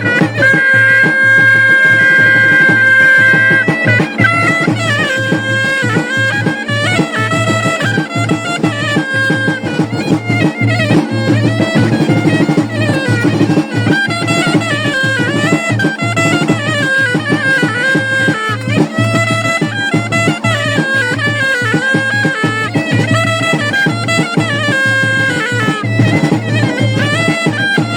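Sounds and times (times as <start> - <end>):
drumbeats: 0.0 - 27.9
reedy wind instrument melody: 0.0 - 27.9.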